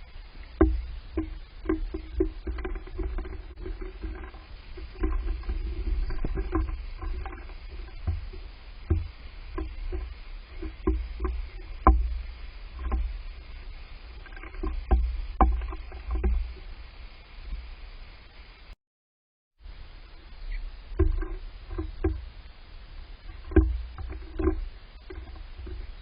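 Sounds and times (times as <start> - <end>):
irregular thumps and knocks: 0.0 - 16.7, 20.9 - 22.4, 23.2 - 26.0.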